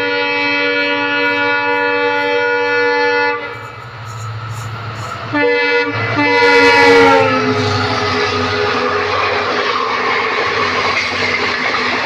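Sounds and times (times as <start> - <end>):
diesel locomotive horn: 0.0 - 11.0
train running rumble: 0.0 - 12.0.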